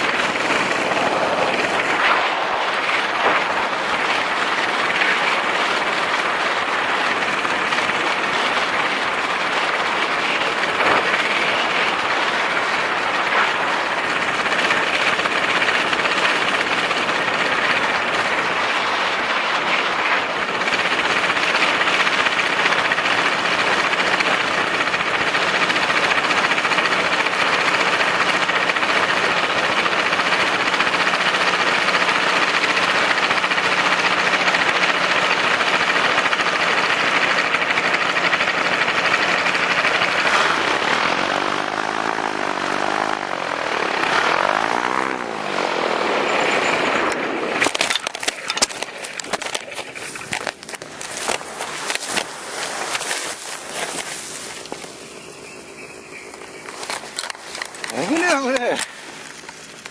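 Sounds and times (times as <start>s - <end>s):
broad rushing noise: 0.0s - 59.9s
paramotor engine droning: 0.0s - 59.9s.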